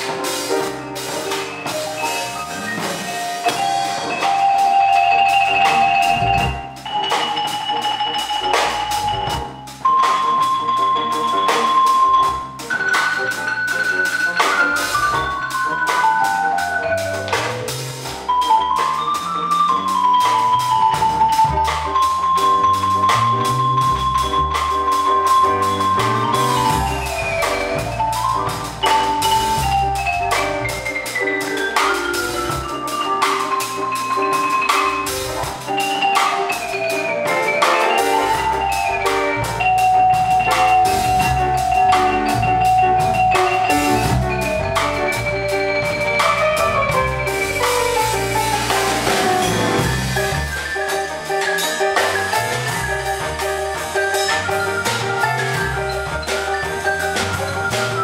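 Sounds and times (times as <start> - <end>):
drum and cymbal strokes: 0.0 - 58.0
marimba melody: 0.0 - 58.0
piano: 0.0 - 58.0.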